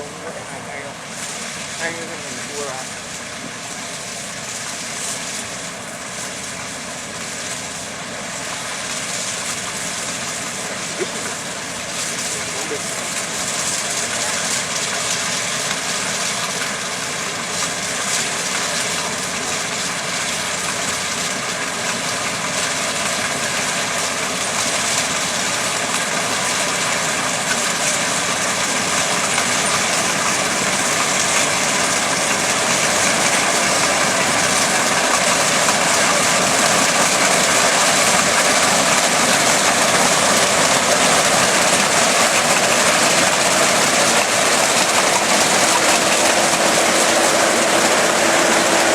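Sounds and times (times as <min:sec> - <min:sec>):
rice harvester running: 0:00.0 - 0:48.9.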